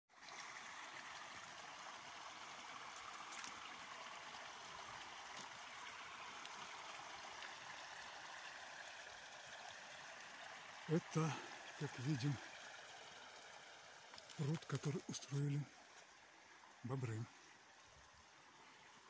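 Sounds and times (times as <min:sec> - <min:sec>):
stream water trickling: 0:00.1 - 0:19.0.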